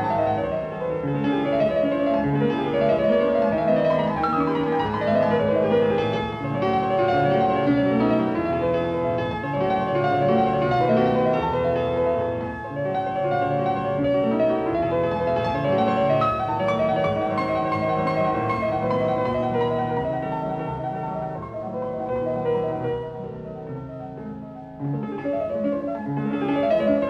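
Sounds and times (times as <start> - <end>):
silent film piano music: 0.0 - 27.0.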